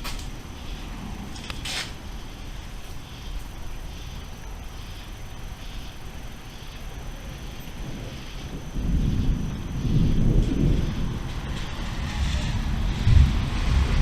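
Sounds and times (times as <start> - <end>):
thunderstorm rumble: 0.0 - 14.0.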